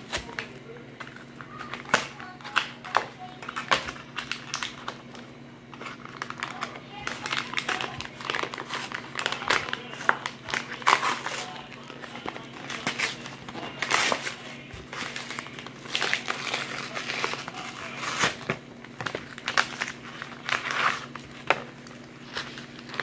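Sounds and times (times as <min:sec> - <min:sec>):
packaging crinkling: 0:00.0 - 0:23.0
steady low hum: 0:00.0 - 0:23.0.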